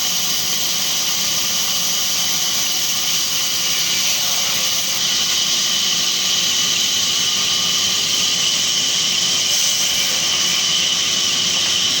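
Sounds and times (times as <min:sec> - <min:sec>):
band saw cutting wood: 0:00.4 - 0:12.0.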